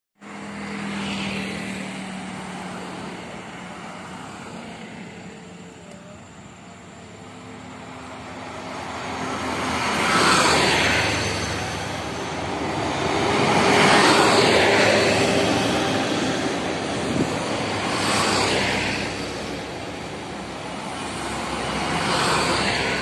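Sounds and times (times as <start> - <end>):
coach engine and tyres passing: 0.2 - 23.0.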